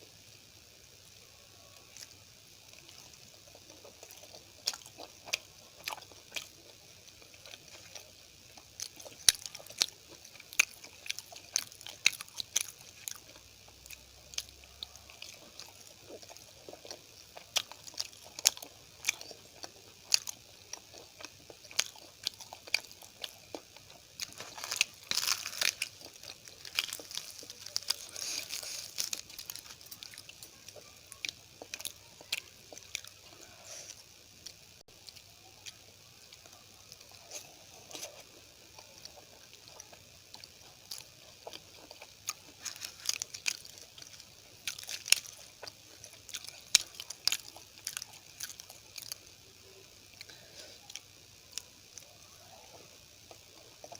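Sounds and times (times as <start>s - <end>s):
close chewing and biting: 1.7s - 53.9s.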